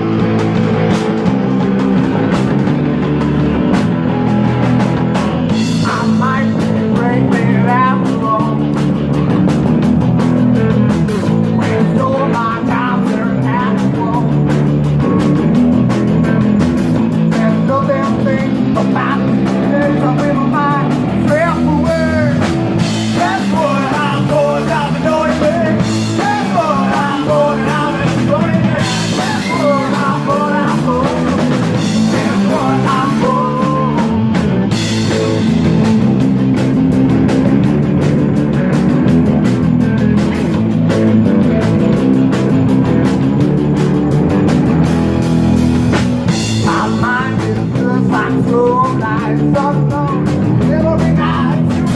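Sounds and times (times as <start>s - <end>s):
bending lead guitar melody: 0.0s - 51.9s
rock band playing: 0.0s - 51.9s.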